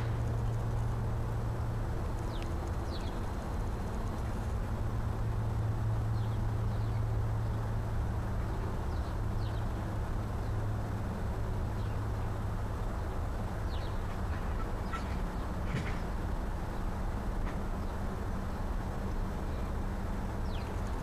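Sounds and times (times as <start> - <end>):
low outdoor hum: 0.0 - 21.0.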